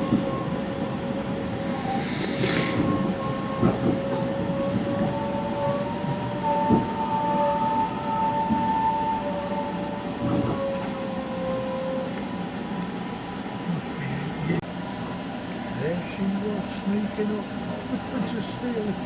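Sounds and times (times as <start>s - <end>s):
higher train whine: 0.0s - 19.0s
train rumbling: 0.0s - 19.0s.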